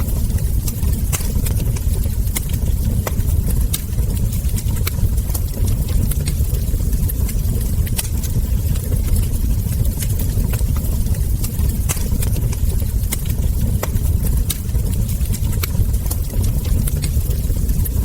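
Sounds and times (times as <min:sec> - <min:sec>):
wood fire crackling: 0:00.0 - 0:18.0
embers popping: 0:00.1 - 0:18.0.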